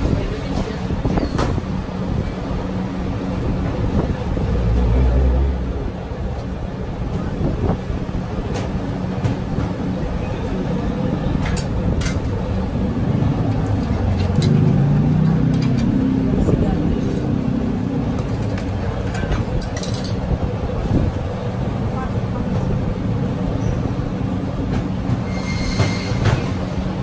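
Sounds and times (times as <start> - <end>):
low street rumble: 0.0 - 27.0.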